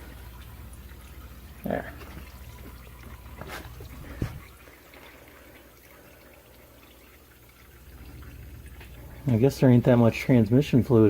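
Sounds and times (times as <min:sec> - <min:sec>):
fluid trickling: 0:00.0 - 0:11.0.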